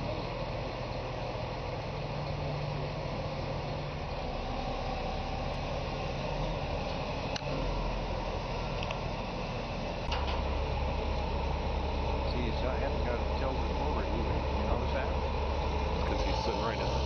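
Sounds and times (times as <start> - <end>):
heavy diesel engine humming: 0.0 - 17.0.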